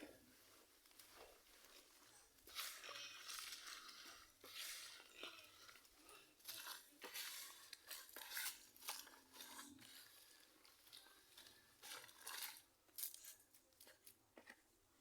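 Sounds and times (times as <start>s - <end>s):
grass and bran rustling by hand: 0.0s - 13.6s.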